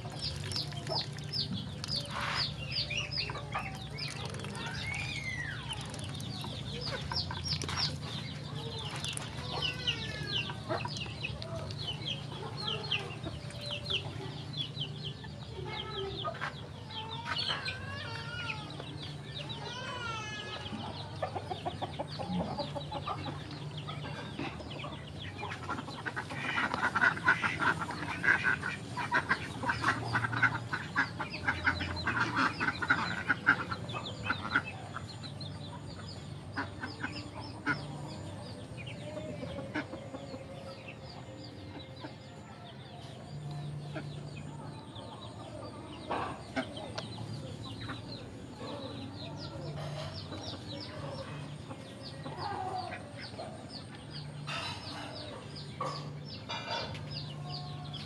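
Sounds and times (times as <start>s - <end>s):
ducklings and chickens peeping: 0.0s - 58.0s.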